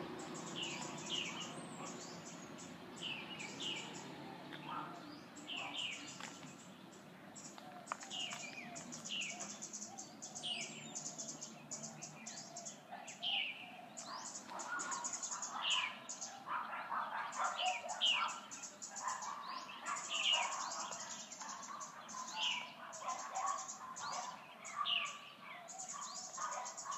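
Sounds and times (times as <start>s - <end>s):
birds calling and chirping: 0.0s - 26.9s.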